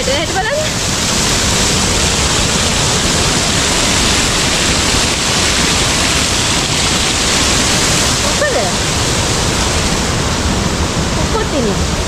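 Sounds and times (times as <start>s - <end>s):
water cascading onto rocks: 0.0s - 12.0s.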